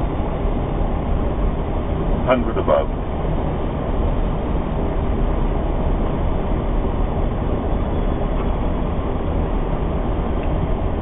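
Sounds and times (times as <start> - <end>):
cockpit airflow and engine noise: 0.0 - 11.0.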